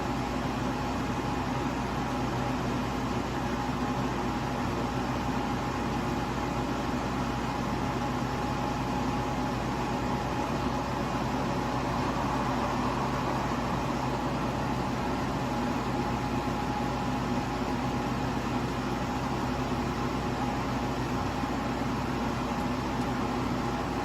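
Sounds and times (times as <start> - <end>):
air conditioner fan rush: 0.0 - 24.0
compressor hum: 0.0 - 24.0.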